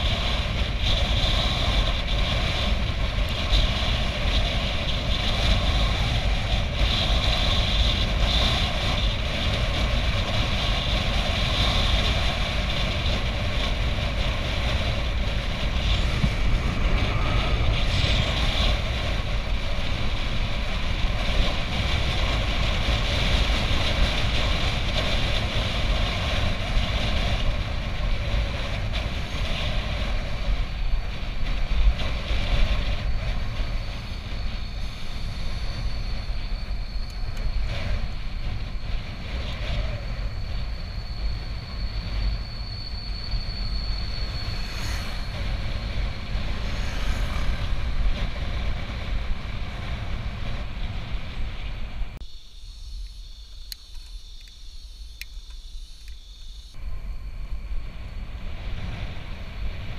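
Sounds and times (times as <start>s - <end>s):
road and vehicle noise: 0.0s - 59.9s
wind rumbling on microphone: 0.0s - 59.9s.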